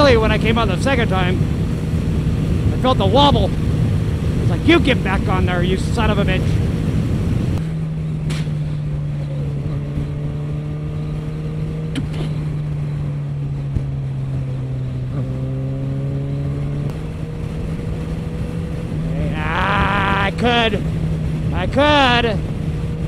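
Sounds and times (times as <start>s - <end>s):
motorcycle engine drone: 0.0s - 23.0s
wind rush: 0.0s - 23.0s.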